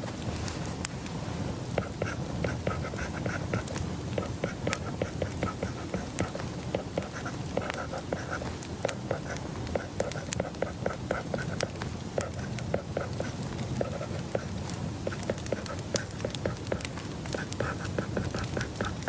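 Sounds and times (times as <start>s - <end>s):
light clicks and taps at desk: 1.7s - 19.0s
scratchy pen strokes: 1.8s - 19.0s.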